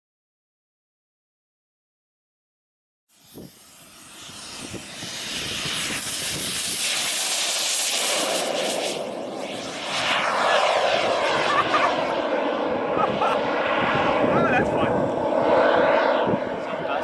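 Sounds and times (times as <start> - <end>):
model jet turbine roaring: 3.1 - 17.0.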